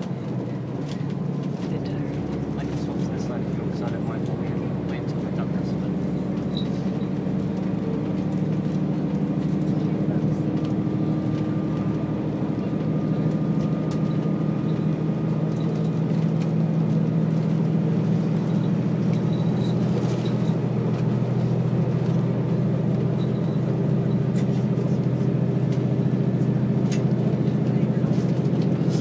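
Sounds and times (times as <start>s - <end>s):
train engine and wheel rumble: 0.0s - 29.0s.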